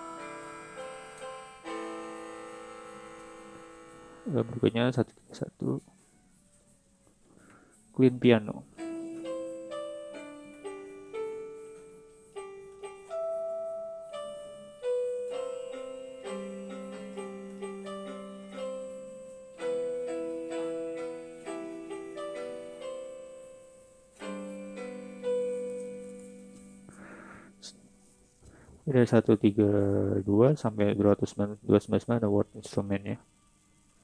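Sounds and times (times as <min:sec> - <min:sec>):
keyboard piano melody: 0:00.0 - 0:34.0.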